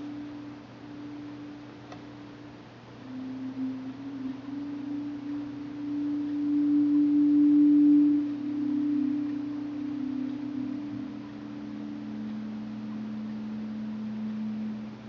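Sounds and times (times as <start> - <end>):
low sustained drone tones: 0.0 - 15.0
lower drone tone: 0.0 - 15.0.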